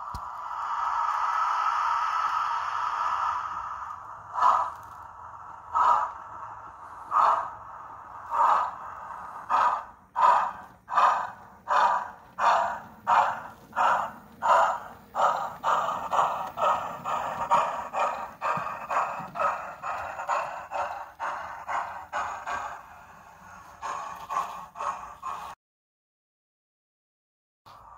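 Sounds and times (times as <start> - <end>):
model steam locomotive chuffs: 0.0 - 25.6.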